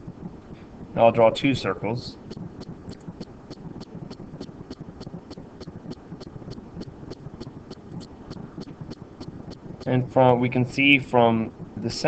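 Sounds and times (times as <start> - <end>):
faint even ticking: 0.0 - 12.0
low room noise and hiss: 0.0 - 12.0.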